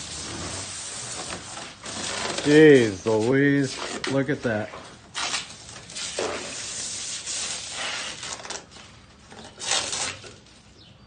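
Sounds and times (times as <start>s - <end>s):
plastic film peeling off: 0.0s - 4.2s, 5.1s - 10.6s.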